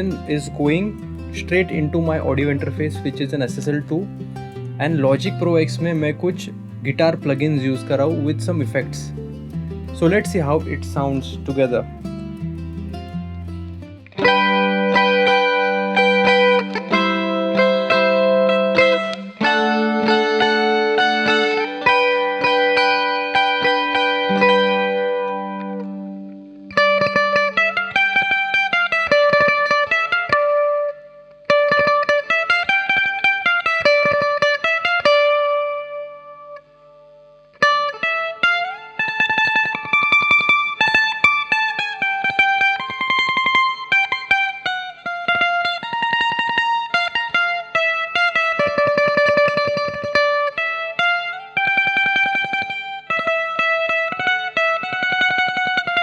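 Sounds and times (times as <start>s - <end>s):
electric mandolin melody: 0.0s - 56.0s.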